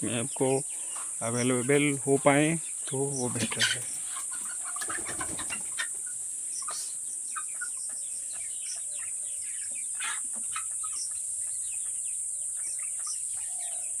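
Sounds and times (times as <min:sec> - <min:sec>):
chicks peeping and clucking: 0:00.0 - 0:14.0
steady high-pitched hiss: 0:00.0 - 0:14.0.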